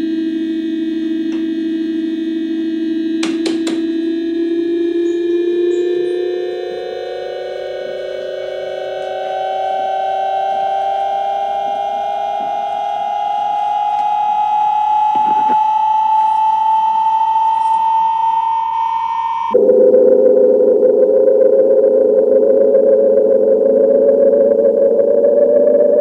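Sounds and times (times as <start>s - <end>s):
electronic tone rising in pitch: 0.0s - 26.0s
layered steady electronic tones: 0.0s - 26.0s
low synthesizer sound: 0.0s - 26.0s.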